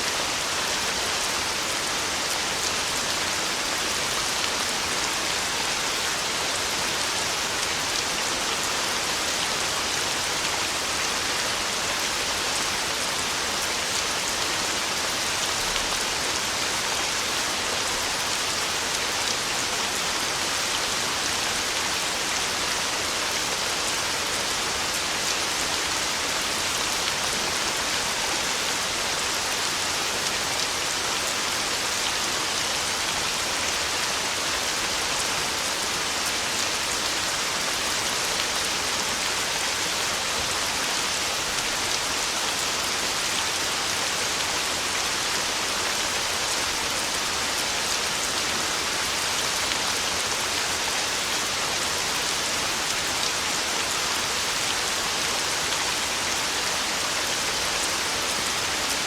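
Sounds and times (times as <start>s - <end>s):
heavy rain on a tin roof: 0.0s - 59.0s.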